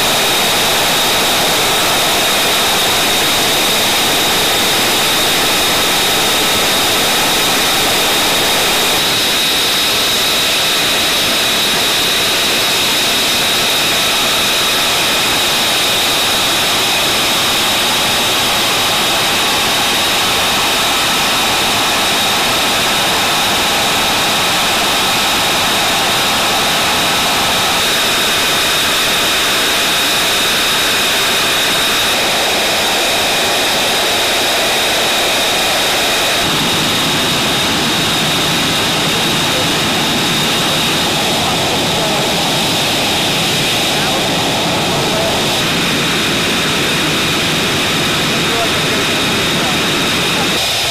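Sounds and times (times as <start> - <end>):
high turbine whine: 0.0 - 50.9
jet engine running: 0.0 - 50.9.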